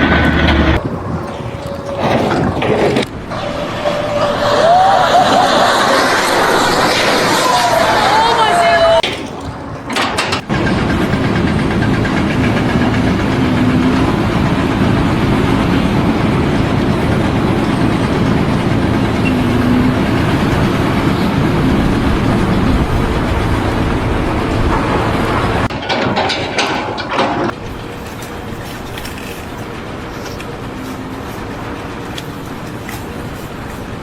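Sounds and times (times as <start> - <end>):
large engine running loudly: 0.0 - 3.3, 9.6 - 33.8.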